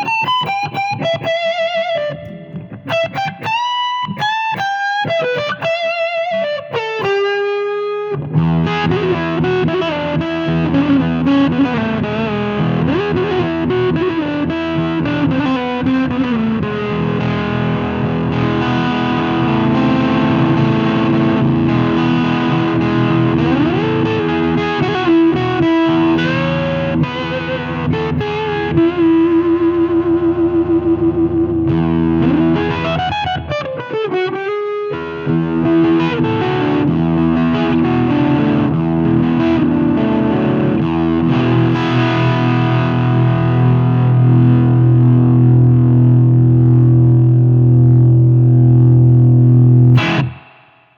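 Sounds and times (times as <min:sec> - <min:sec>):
fuzz distorted electric guitar: 0:00.0 - 0:50.9.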